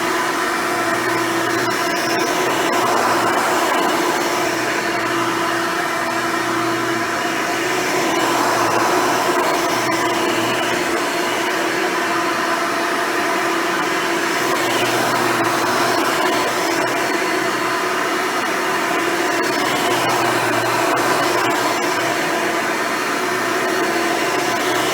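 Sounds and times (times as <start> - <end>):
vacuum cleaner humming: 0.0 - 24.9.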